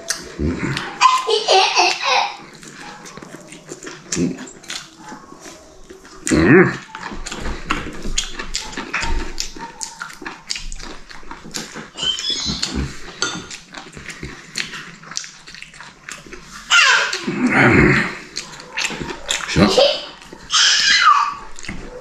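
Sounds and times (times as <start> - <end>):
dog making sounds: 0.0 - 22.0.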